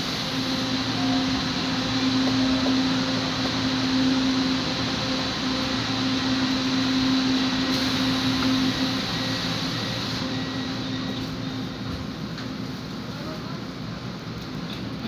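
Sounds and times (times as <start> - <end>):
light-rail train hum: 0.0 - 15.0
rail noise: 0.0 - 15.0.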